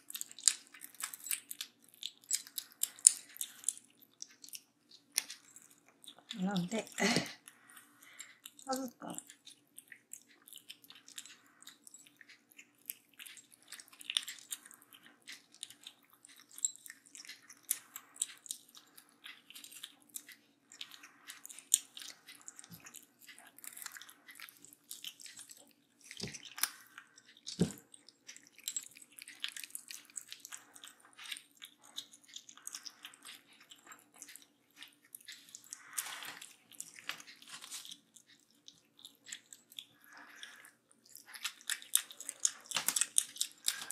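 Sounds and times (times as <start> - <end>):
kittens crunching dry kibble: 0.0 - 43.9.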